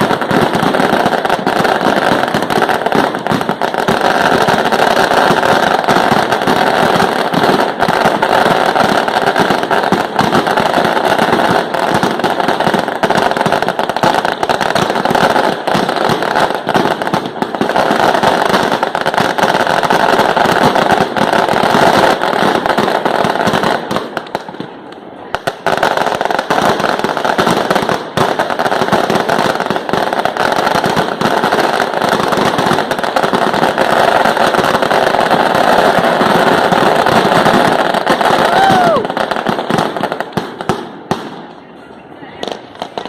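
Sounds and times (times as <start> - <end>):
fireworks and firecrackers popping: 0.0 - 43.0.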